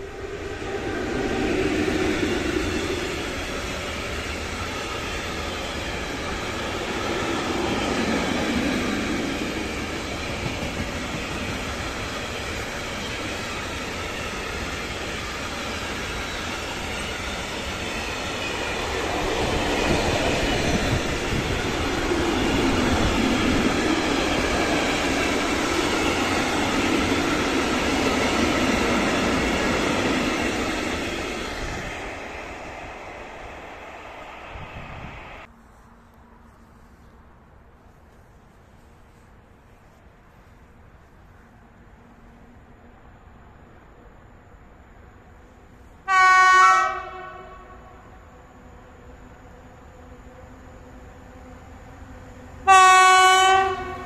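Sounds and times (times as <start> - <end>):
freight train wheels on rails: 0.0 - 42.6, 44.8 - 54.0.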